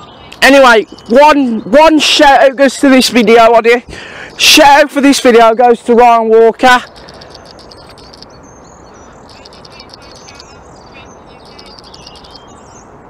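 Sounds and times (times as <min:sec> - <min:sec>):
small birds chirping: 0:00.0 - 0:04.6, 0:06.6 - 0:13.0
low background noise: 0:00.0 - 0:13.0.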